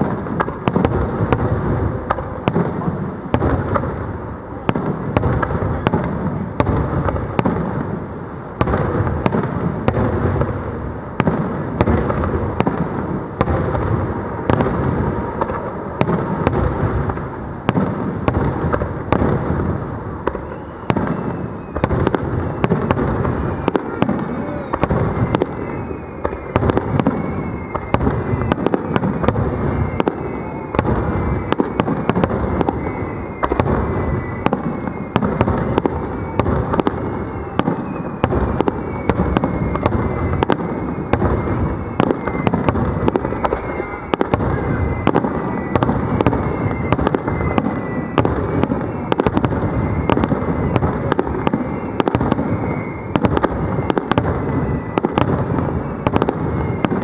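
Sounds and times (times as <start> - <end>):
falling firework whistles: 0.0 - 57.0
firework bangs and crackles: 0.0 - 57.0.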